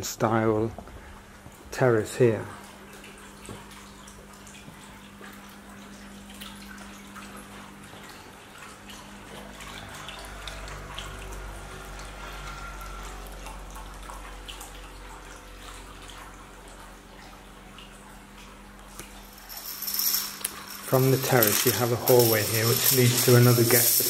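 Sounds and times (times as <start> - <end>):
water trickling and dripping: 0.9 - 23.8.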